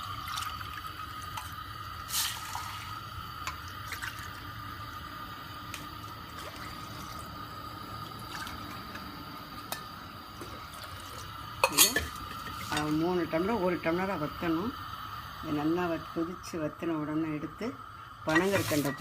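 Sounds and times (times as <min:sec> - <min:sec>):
water heating in a pot: 0:00.0 - 0:19.0.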